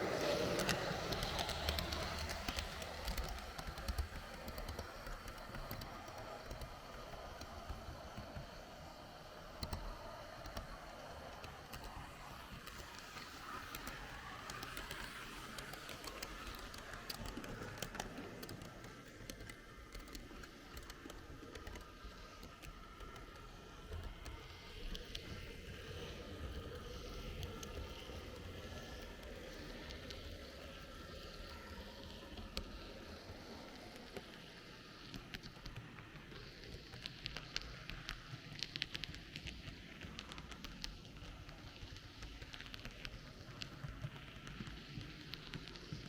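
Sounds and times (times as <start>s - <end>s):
model train wheels clicking: 0.0s - 46.0s
model train whir: 0.0s - 46.0s.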